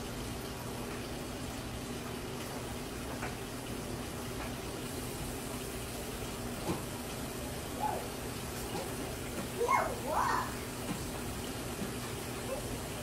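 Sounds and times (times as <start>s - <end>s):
treadmill motor hum: 0.0s - 13.0s.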